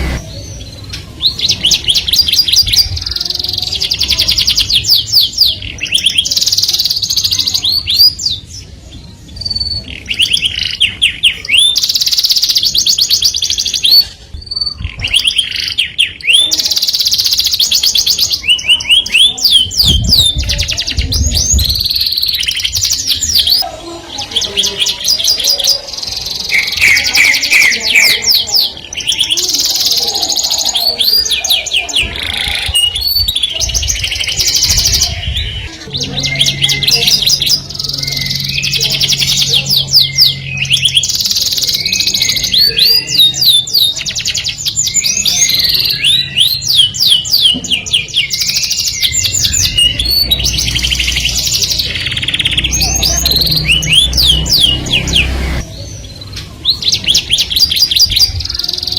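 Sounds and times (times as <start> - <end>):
canary singing trills: 0.0 - 58.9.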